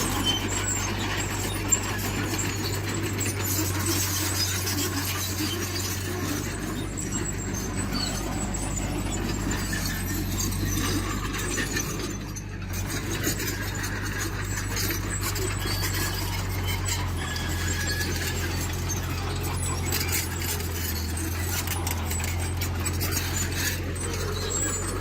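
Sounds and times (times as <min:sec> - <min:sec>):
heavy diesel engine running: 0:00.0 - 0:25.0
high metallic squeals: 0:00.0 - 0:25.0.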